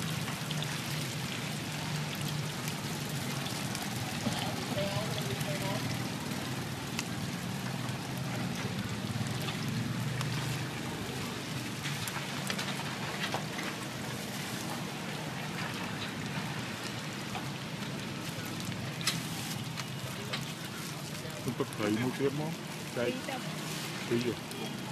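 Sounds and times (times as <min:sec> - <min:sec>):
rice cakes sizzling in oil: 0:00.0 - 0:24.9.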